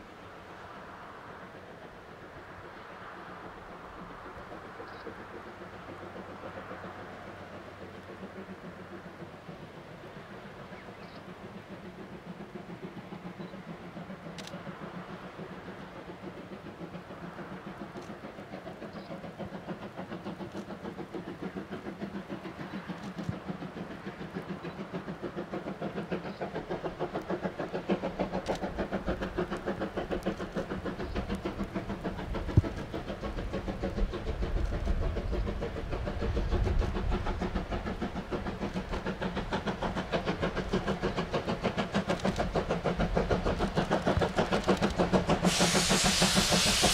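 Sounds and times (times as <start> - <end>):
steam locomotive chuffing: 0.0 - 46.9.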